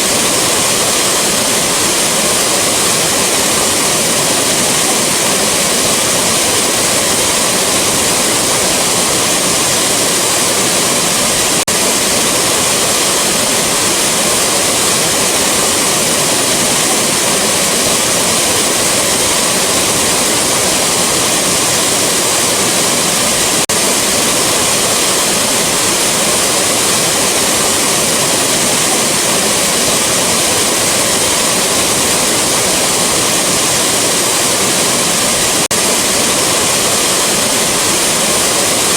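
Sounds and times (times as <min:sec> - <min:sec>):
rushing waterfall: 0:00.0 - 0:38.9.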